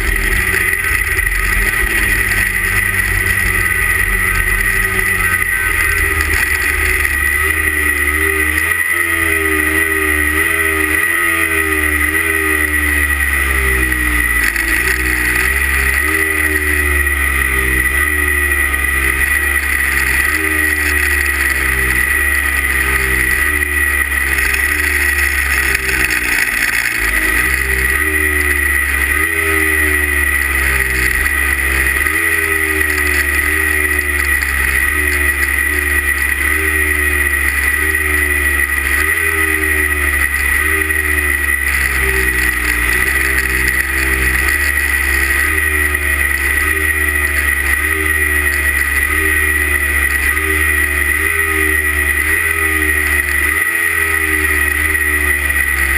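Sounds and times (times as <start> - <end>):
snowmobile engine revving: 0.0 - 55.9
steady high whine: 0.0 - 55.9.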